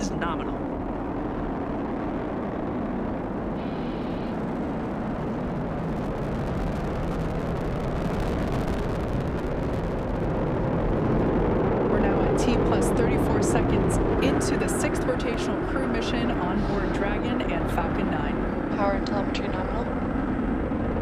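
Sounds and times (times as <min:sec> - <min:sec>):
rocket engines rumbling and crackling: 0:00.0 - 0:21.0.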